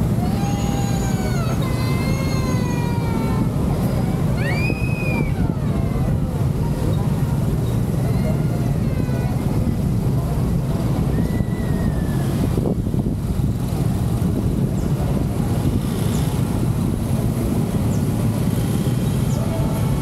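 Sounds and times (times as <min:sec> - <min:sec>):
road and engine rumble: 0:00.0 - 0:20.0.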